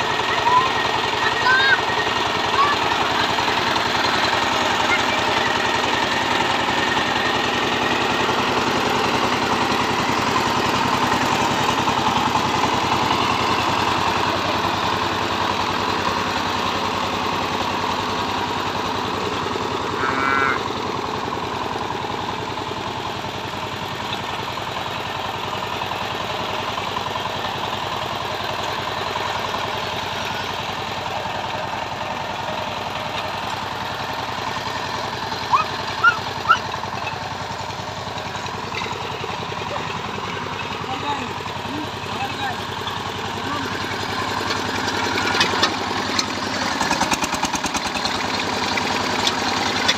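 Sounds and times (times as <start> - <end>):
diesel engine running steadily: 0.0 - 49.9.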